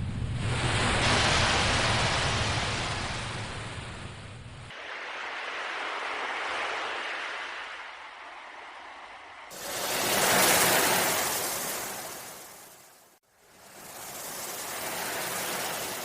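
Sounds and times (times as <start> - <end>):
ocean waves washing in: 0.0 - 16.0.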